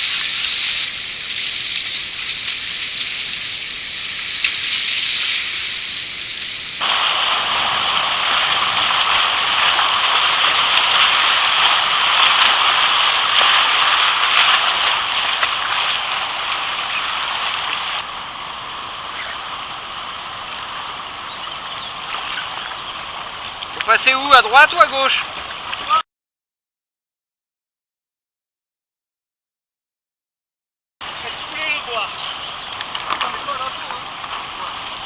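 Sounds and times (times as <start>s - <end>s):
river water rushing: 0.0s - 26.0s, 31.0s - 35.0s.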